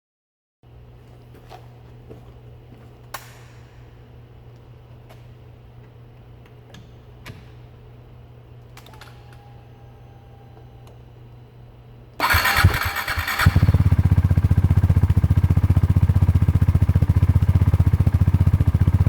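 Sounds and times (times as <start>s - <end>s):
steady low hum: 0.7s - 19.0s.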